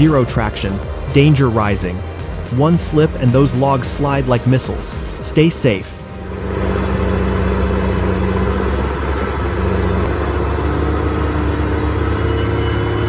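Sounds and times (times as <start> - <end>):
heavy diesel engine under load: 0.0 - 13.0.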